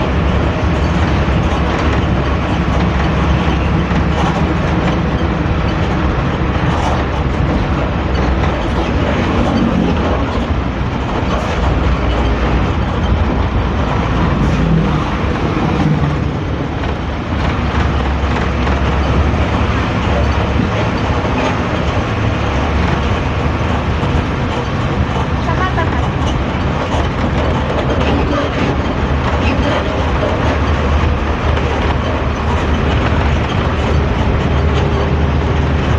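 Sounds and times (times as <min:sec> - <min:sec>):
bus diesel engine drone: 0:00.0 - 0:35.9
road noise: 0:00.0 - 0:35.9.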